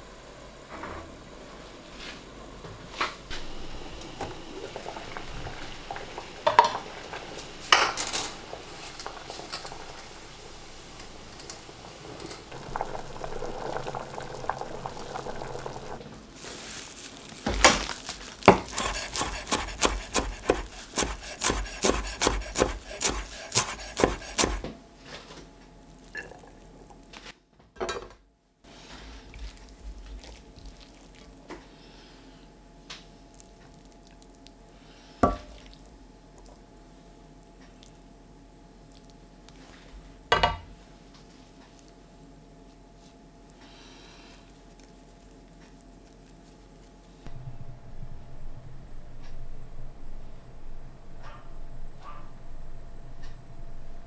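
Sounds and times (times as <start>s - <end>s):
low steady hiss: 0.0s - 18.8s, 24.6s - 54.0s.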